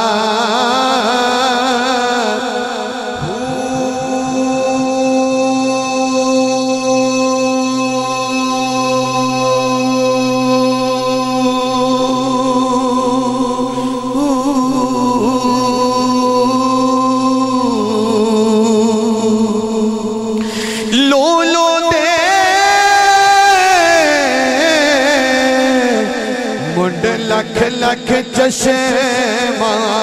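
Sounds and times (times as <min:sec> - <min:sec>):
man singing unaccompanied: 0:00.0 - 0:30.0.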